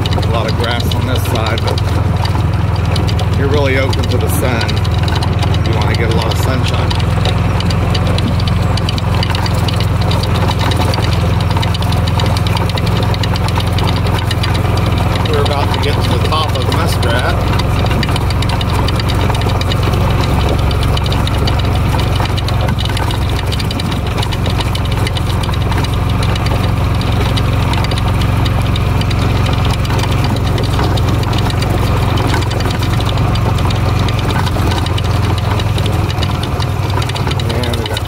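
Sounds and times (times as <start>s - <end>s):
small vehicle engine droning: 0.0s - 38.0s.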